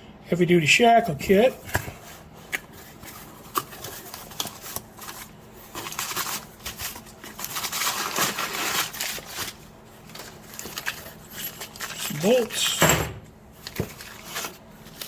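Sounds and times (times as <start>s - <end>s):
packaging rustling and crinkling: 1.0s - 12.8s, 13.5s - 15.0s.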